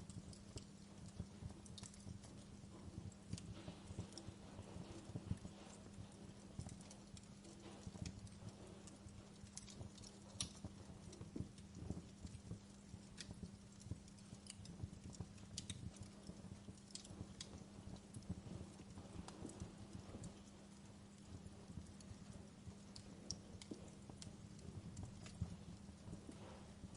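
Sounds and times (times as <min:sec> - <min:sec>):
faint low hum: 0:00.0 - 0:26.9
wood fire crackling: 0:00.0 - 0:26.9.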